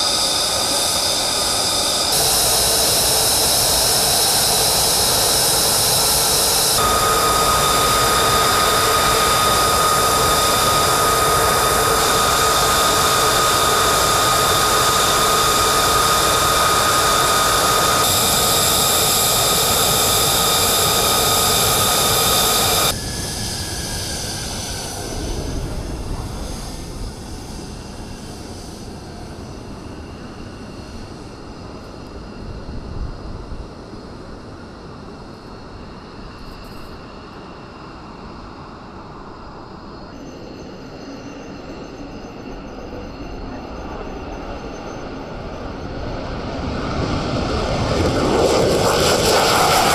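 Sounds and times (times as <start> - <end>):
distant jets taxiing: 0.0 - 49.9
jet engines running: 0.0 - 49.9.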